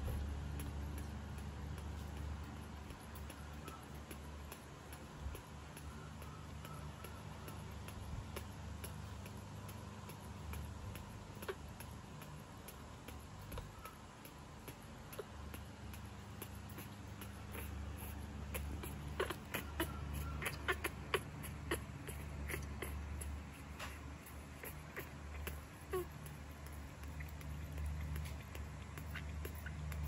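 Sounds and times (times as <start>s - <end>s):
light clicks and taps: 0.0s - 30.0s
low steady hum: 0.0s - 30.0s.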